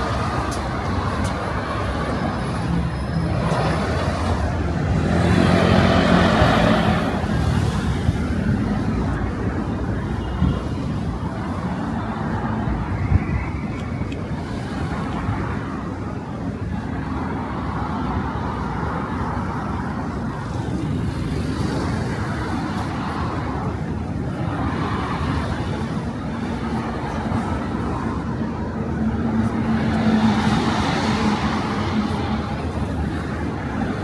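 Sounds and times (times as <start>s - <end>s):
cars passing on road: 0.0s - 34.0s.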